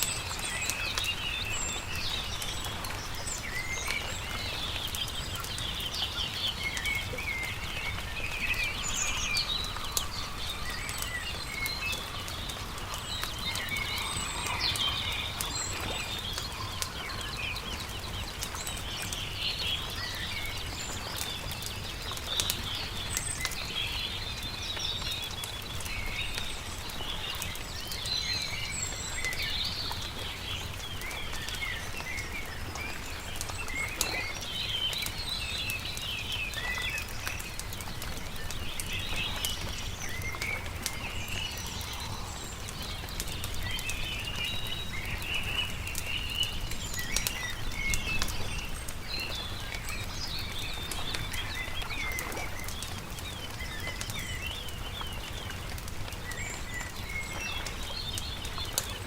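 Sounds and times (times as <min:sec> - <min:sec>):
small birds chirping: 0:00.0 - 0:59.0
wood campfire crackling: 0:00.0 - 0:59.0.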